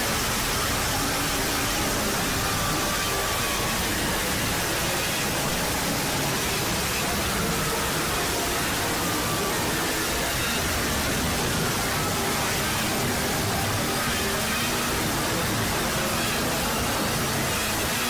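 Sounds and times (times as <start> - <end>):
loud static noise: 0.0 - 18.0.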